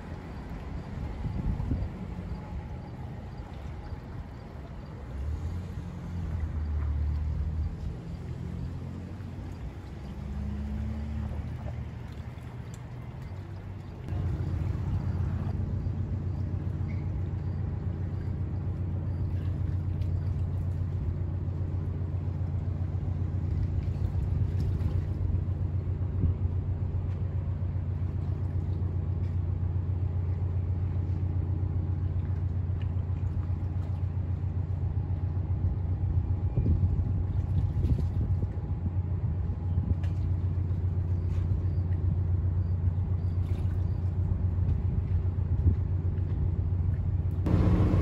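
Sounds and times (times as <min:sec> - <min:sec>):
ship engine rumble: 0:00.0 - 0:48.0.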